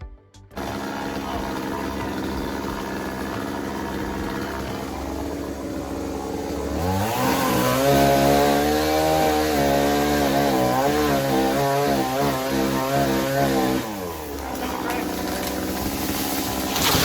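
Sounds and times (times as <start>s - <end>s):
chainsaw revving: 0.6s - 17.0s.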